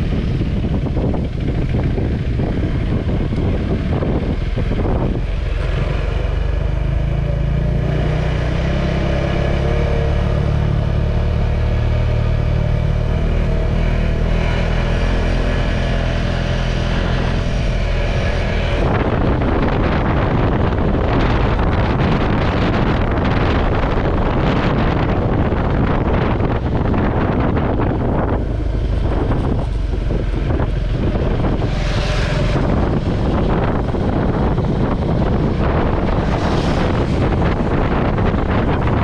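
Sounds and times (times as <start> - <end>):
motorcycle engine running: 0.0 - 39.0
wind buffeting microphone: 0.0 - 39.0.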